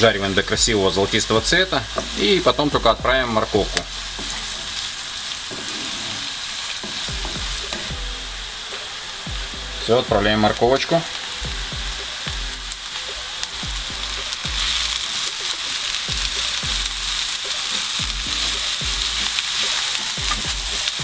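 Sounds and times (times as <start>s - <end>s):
vegetables sizzling in a frying pan: 0.0s - 21.0s.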